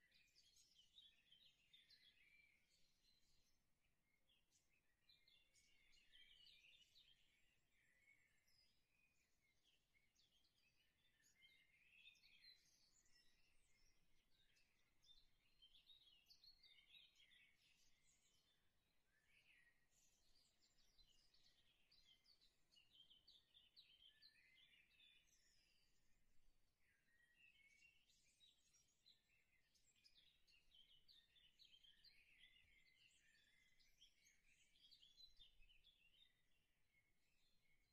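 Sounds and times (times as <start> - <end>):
faint bird chirping: 0.0 - 37.9.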